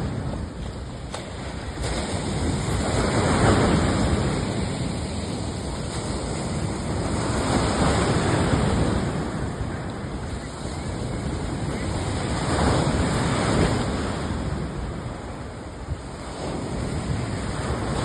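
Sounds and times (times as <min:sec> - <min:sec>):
surf rushing: 0:00.0 - 0:18.0
wind buffeting microphone: 0:00.0 - 0:18.0.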